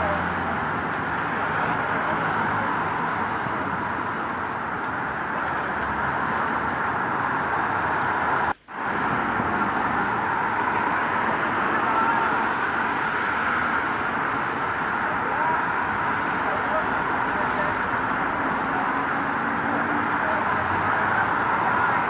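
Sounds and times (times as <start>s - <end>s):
road traffic noise: 0.0s - 22.0s
steady rain: 0.0s - 22.0s.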